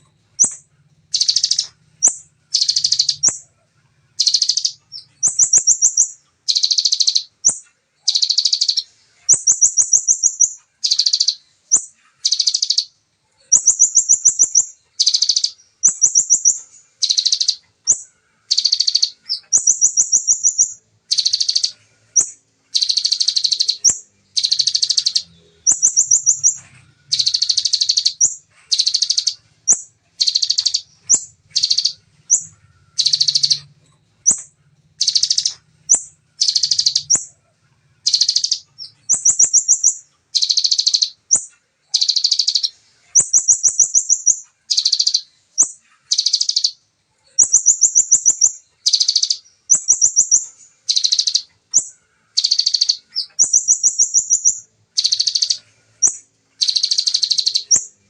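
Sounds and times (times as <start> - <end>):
bird singing rapid high trills: 0.0 - 58.0.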